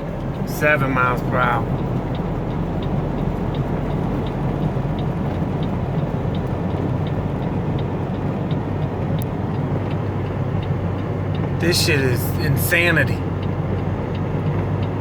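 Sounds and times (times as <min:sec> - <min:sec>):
car driving slowly from inside: 0:00.0 - 0:15.0
faint regular ticking: 0:00.1 - 0:15.0.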